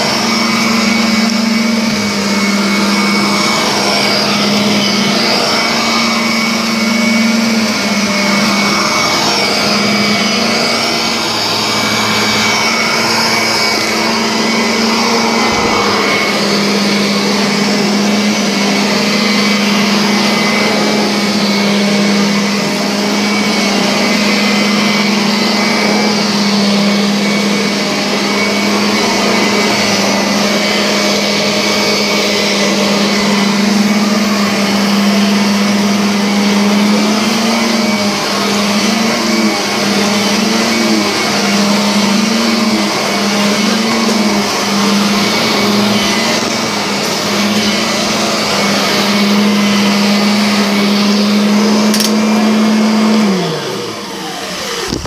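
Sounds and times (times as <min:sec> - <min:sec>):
vacuum cleaner on carpet: 0:00.0 - 0:55.0.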